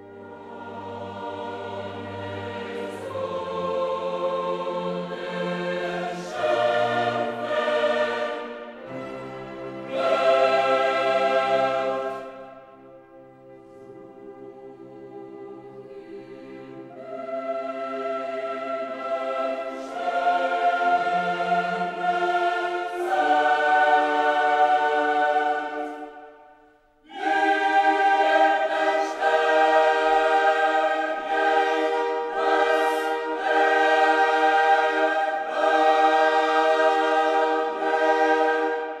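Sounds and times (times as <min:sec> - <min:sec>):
choir singing held chords: 0:00.0 - 0:39.0.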